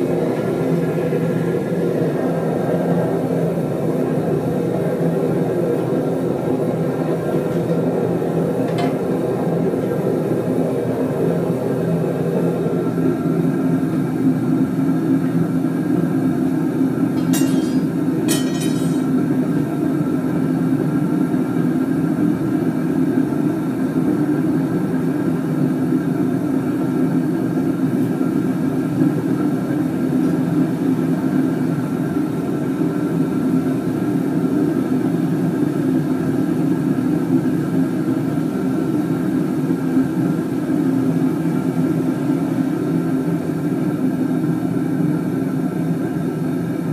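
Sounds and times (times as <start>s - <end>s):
gas burner rumble: 0.0s - 46.9s.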